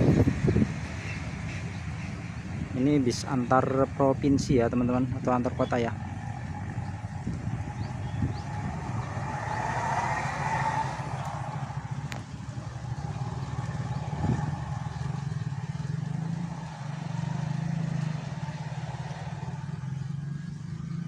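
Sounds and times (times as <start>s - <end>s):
diesel vehicles passing: 0.0s - 21.0s.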